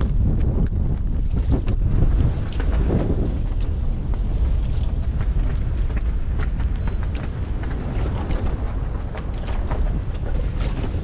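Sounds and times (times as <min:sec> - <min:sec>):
gusting wind buffeting microphone: 0:00.0 - 0:11.0.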